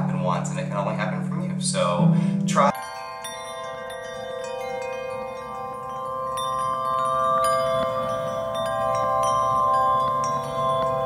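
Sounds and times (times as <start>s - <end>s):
held ringing tones: 0.0s - 11.0s
wind chimes tinkling: 0.0s - 11.0s.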